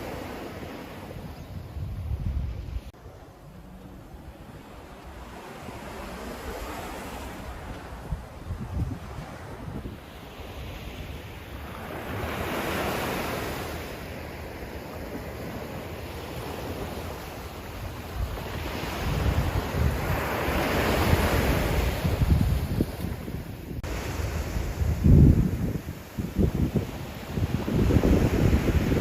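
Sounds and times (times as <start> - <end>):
sea waves washing onto beach: 0.0 - 1.4, 2.5 - 29.0
wind gusting on microphone: 0.0 - 29.0.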